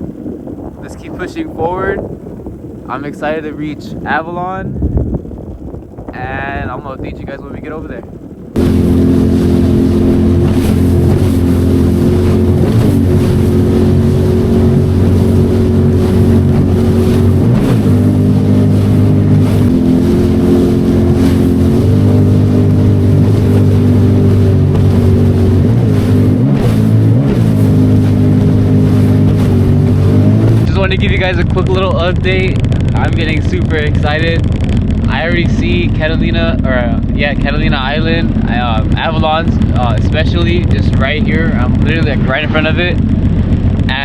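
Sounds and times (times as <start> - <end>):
jet ski engine running: 0.0 - 44.0.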